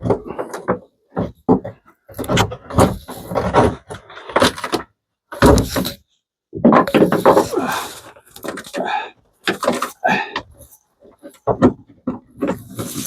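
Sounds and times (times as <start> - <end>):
plywood being pried and broken: 0.0 - 13.0.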